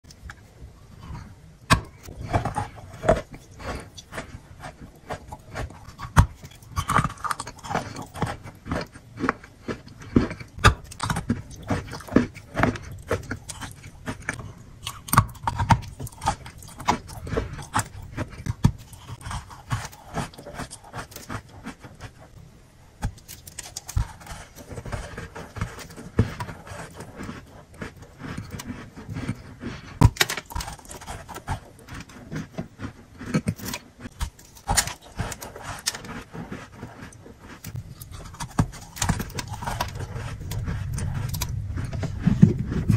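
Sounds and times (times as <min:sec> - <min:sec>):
person chewing crunchy chalk: 0:00.0 - 0:42.9.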